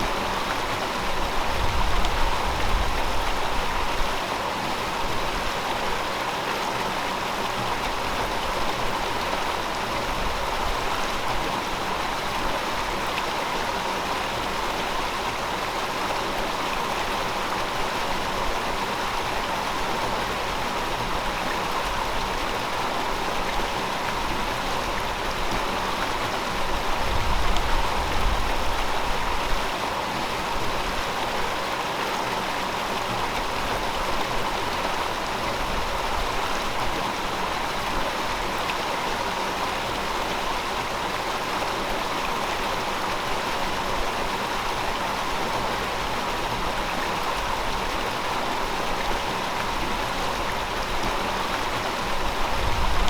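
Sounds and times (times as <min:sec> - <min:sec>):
river water flowing over rocks: 0:00.0 - 0:53.0.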